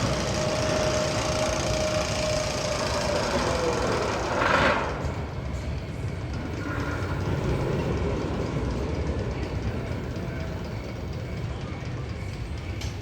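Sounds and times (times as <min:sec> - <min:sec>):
roller coaster rumbling on track: 0:00.0 - 0:13.0.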